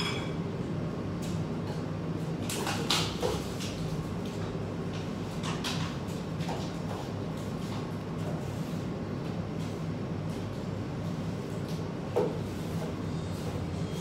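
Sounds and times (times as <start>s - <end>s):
low cafe hum: 0.0s - 14.0s.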